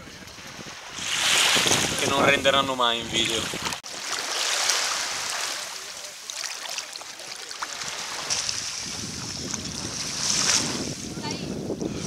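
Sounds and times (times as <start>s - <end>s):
small waves lapping on sand: 0.0s - 12.0s.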